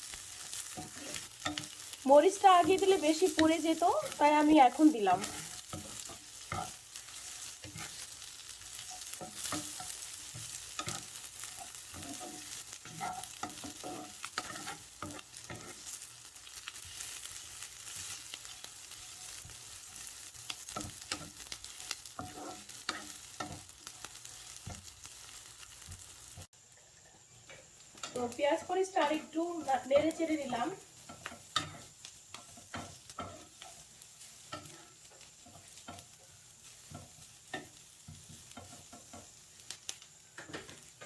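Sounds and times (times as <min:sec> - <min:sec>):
spatula scraping a pan: 0:00.0 - 0:26.5, 0:27.3 - 0:39.5
onions sizzling in hot oil: 0:00.0 - 0:41.0.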